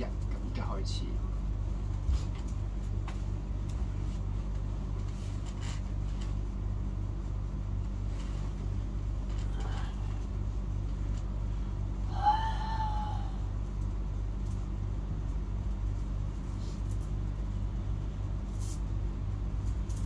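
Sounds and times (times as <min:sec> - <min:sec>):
pulsing machine hum: 0:00.0 - 0:20.0.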